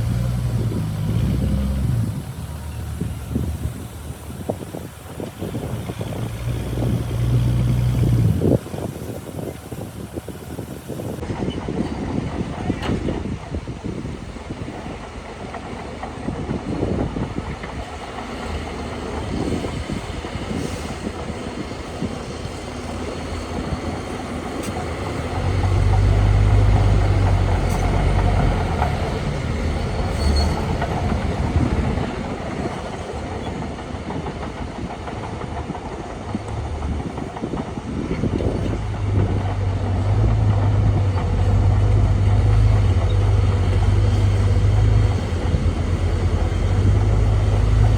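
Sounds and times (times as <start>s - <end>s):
diesel engine rumble: 0.0s - 47.9s.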